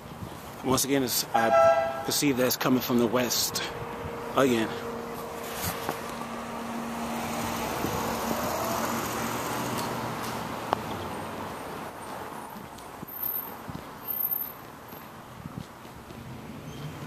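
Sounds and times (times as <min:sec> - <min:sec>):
car passing: 0:01.3 - 0:15.2.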